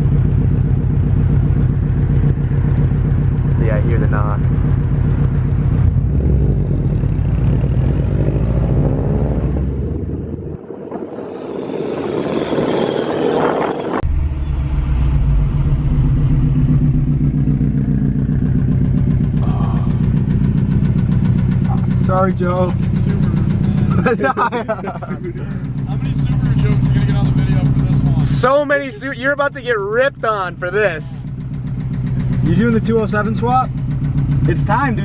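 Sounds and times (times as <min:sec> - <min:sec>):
car engine idling with knock: 0:00.0 - 0:07.8, 0:14.0 - 0:35.0.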